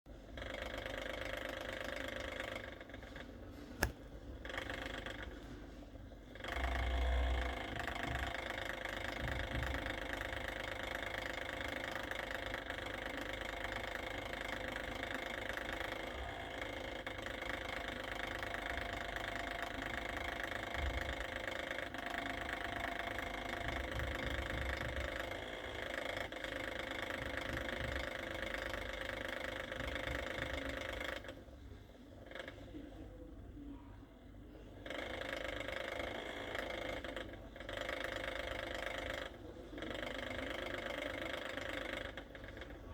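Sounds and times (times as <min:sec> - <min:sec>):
small motor humming: 0:00.3 - 0:05.6, 0:06.3 - 0:31.4, 0:34.8 - 0:42.9.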